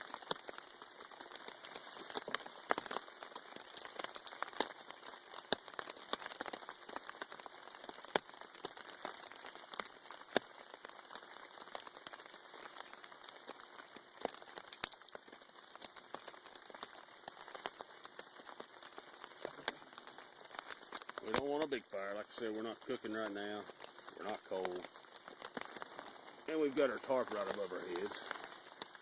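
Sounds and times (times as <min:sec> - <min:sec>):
kindling fire crackling: 0:00.0 - 0:29.0
rain pattering on a tarp: 0:00.0 - 0:29.0.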